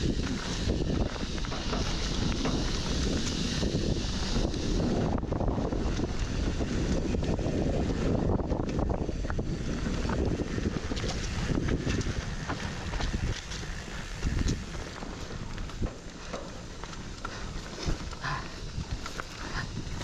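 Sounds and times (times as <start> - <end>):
bike clicks and rattles: 0.0 - 20.0
bike tyre noise: 0.0 - 20.0
wind rushing over microphone: 0.0 - 20.0.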